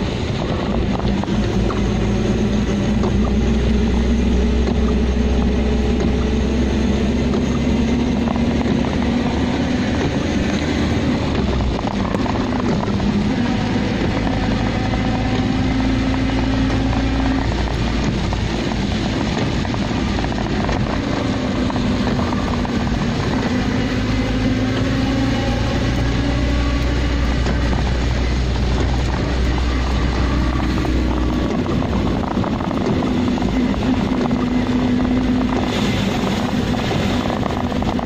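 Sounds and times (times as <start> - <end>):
car engine hum: 0.0 - 38.0
tyre rain and wind noise: 0.0 - 38.0.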